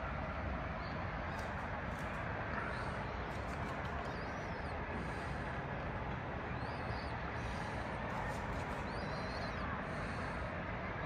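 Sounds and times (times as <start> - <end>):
low city hum: 0.0 - 11.0.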